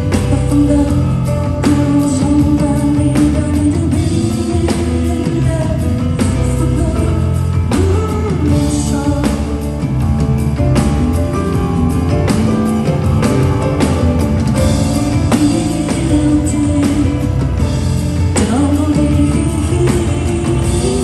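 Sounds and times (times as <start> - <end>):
heavy bass line: 0.0 - 21.0
steady drum beat: 0.0 - 21.0
woman singing: 0.0 - 21.0.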